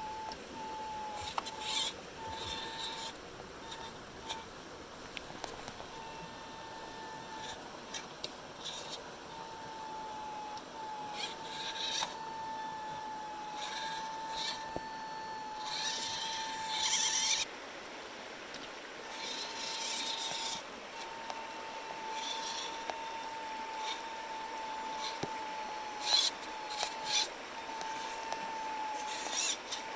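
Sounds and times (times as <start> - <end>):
electric drivetrain whining: 0.0 - 4.5, 5.1 - 17.5, 19.0 - 29.9
hissy grinding noise: 0.0 - 29.9.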